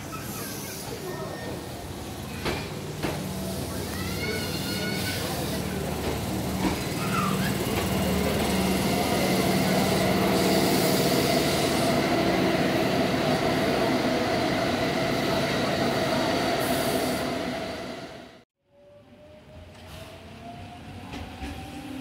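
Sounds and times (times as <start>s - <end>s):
electric train rumbling past: 0.0s - 18.4s.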